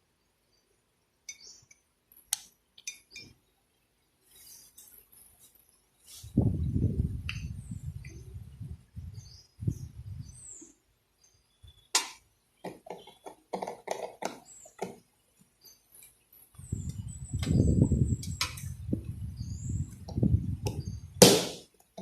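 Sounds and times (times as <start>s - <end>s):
small birds chirping: 0.4s - 2.2s, 2.8s - 21.2s.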